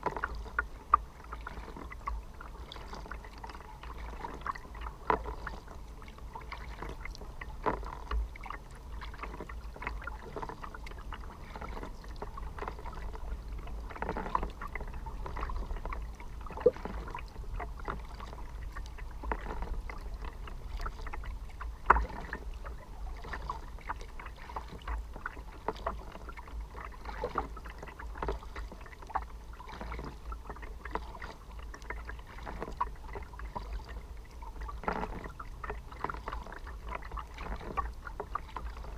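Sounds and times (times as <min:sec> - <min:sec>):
kayak paddle splashes: 0:00.0 - 0:38.9.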